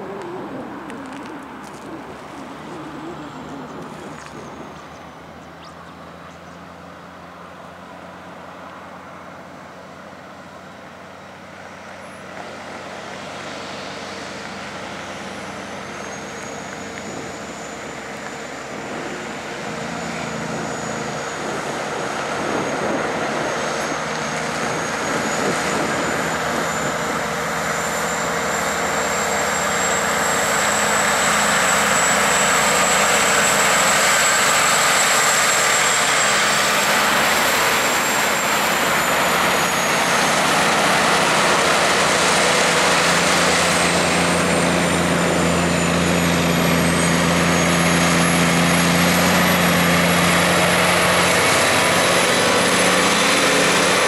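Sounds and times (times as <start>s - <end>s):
high whine: 0.0s - 6.2s, 11.6s - 54.0s
diesel truck engines under load: 0.0s - 54.0s.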